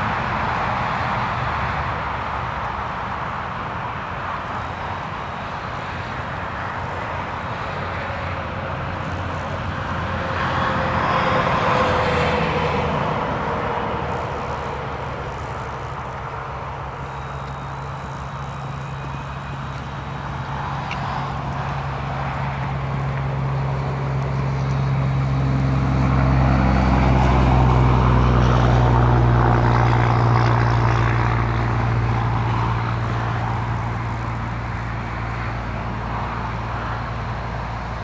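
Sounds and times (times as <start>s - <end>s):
engine drone passing: 0.0s - 38.0s.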